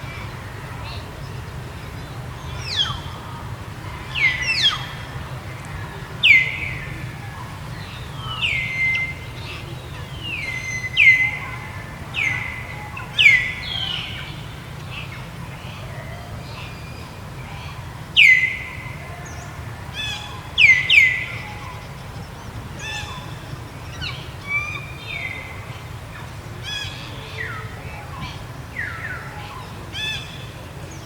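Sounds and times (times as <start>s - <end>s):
birds calling: 0.0s - 31.0s
steady low hum: 0.0s - 31.0s.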